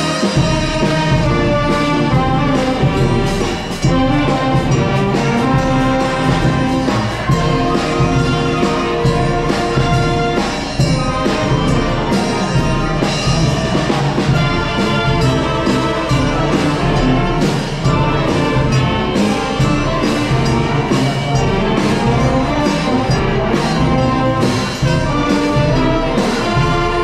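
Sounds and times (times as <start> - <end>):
brass instruments playing tune: 0.0 - 27.0
steady drum beat: 0.0 - 27.0.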